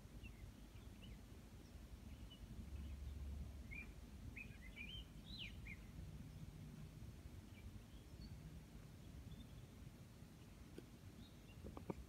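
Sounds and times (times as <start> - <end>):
faint bird chirping: 0.0 - 12.0
low steady hum: 0.0 - 12.0.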